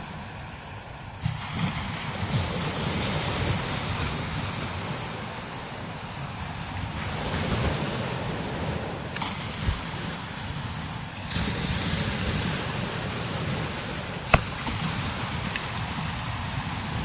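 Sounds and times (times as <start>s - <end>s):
strong wind gusting: 0.0s - 17.0s
wind rumble on microphone: 0.0s - 17.0s.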